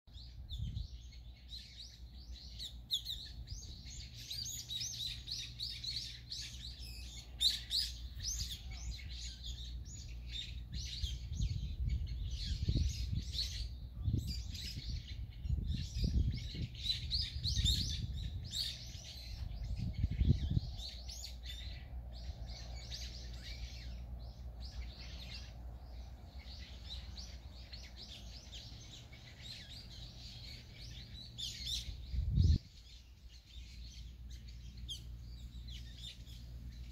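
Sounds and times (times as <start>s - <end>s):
small birds chirping and twittering: 0.1s - 36.9s.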